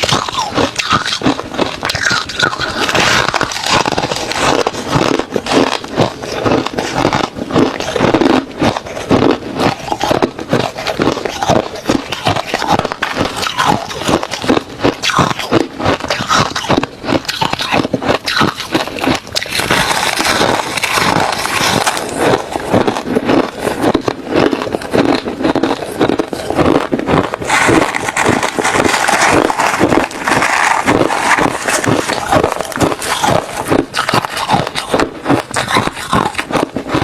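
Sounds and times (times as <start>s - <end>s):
ice being chewed: 0.0s - 37.0s.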